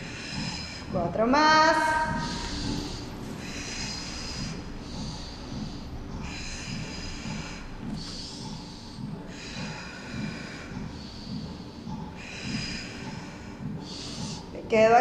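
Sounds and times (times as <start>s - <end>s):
woman breathing hard: 0.0s - 14.7s.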